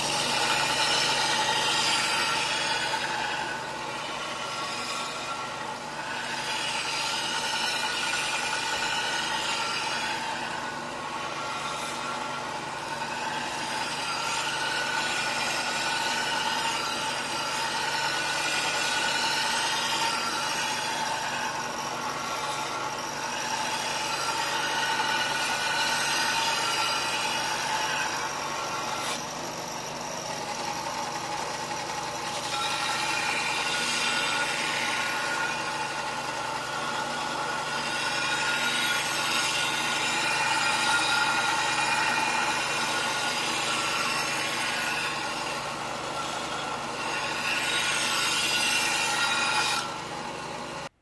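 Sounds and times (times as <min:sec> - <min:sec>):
belt sander motor whine: 0:00.0 - 0:50.9
steel blade grinding on belt: 0:00.0 - 0:50.9.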